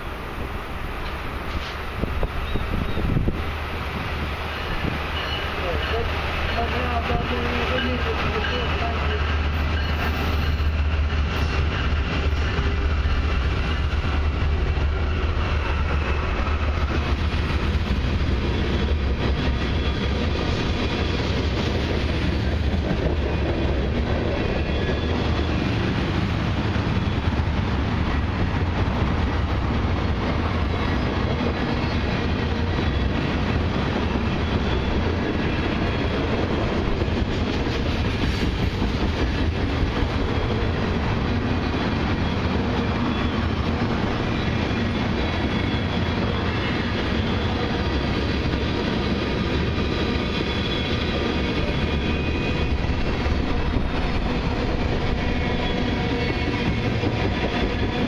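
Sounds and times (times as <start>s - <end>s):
diesel locomotive engine rumble: 0.0s - 58.0s
train wheels rolling on rails: 0.0s - 58.0s.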